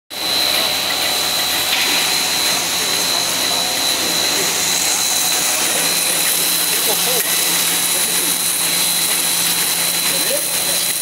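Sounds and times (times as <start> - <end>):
loud steady machine hiss: 0.1 - 11.0
thin high whine: 0.1 - 11.0.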